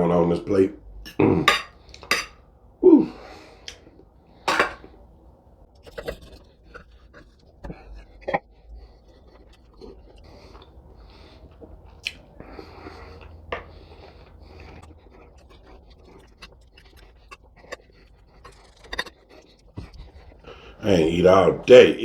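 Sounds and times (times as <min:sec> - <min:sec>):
man chewing food: 0:00.8 - 0:21.8.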